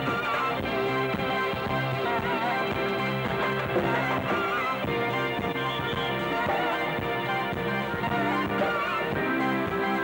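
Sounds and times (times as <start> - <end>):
drums: 0.0 - 10.0
electric guitar: 0.0 - 10.0
keyboards: 0.0 - 10.0.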